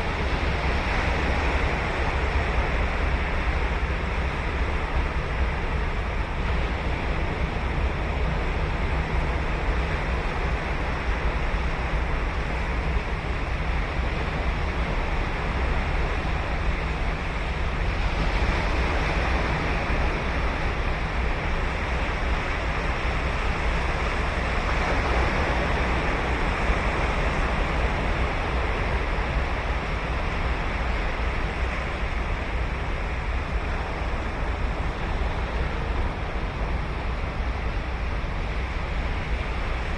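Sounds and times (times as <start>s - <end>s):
ocean surf breaking on beach: 0.0s - 39.9s
wind rumble on microphone: 0.0s - 39.9s.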